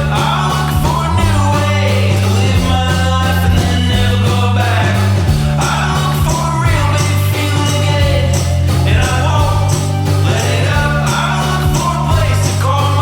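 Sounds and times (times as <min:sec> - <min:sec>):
pop-rock music: 0:00.0 - 0:13.0.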